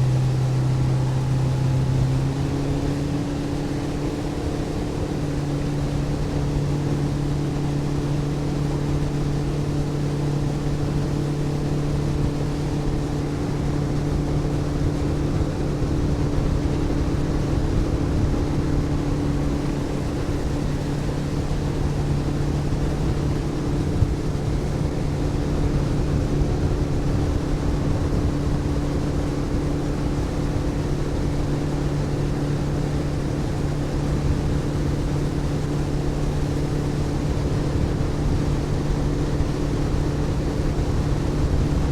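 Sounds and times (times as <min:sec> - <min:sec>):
boat motor droning: 0:00.0 - 0:41.9
rushing water: 0:00.0 - 0:41.9
wind noise: 0:00.0 - 0:41.9.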